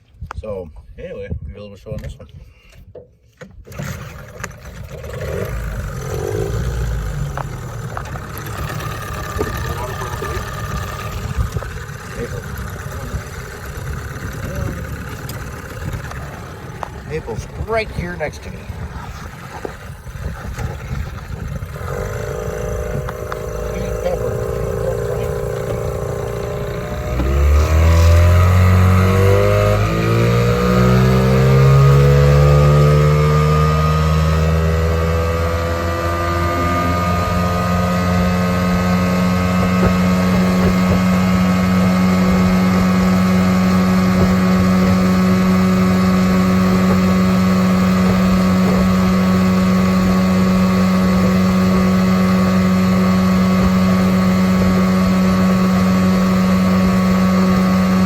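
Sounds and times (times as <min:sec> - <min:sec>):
outboard motor revving: 0:03.6 - 0:58.0.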